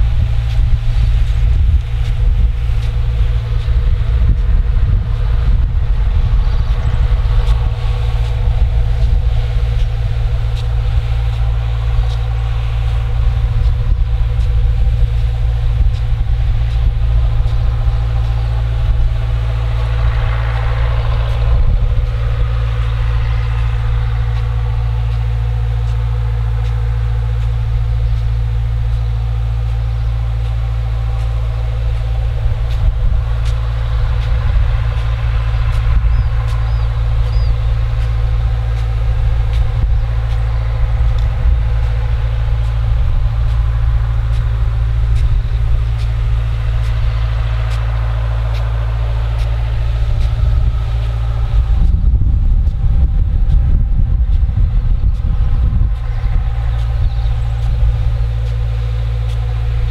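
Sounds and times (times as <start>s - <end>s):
distant diesel engine drone: 0.0s - 59.9s.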